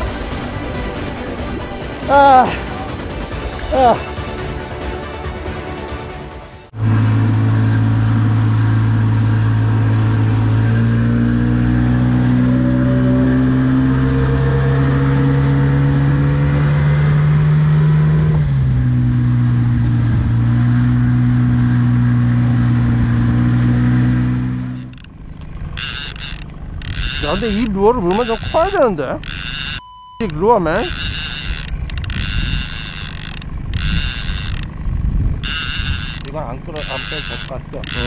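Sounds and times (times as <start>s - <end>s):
outboard motor running: 6.8s - 38.0s.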